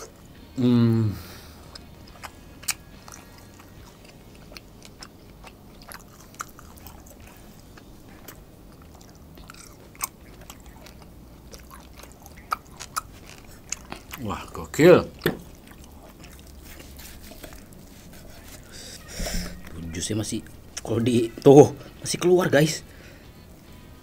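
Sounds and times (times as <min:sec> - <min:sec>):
close-up chewing: 0:01.5 - 0:23.8.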